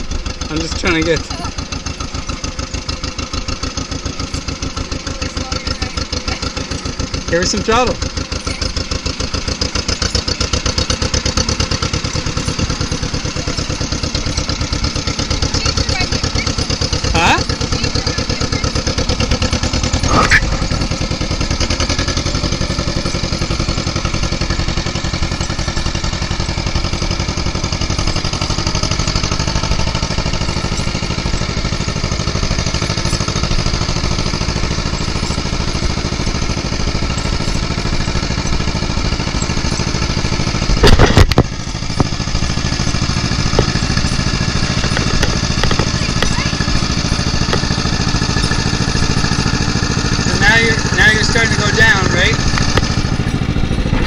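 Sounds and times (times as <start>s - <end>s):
loud clatter: 0.0s - 54.0s
tractor engine pulsing: 0.0s - 54.0s.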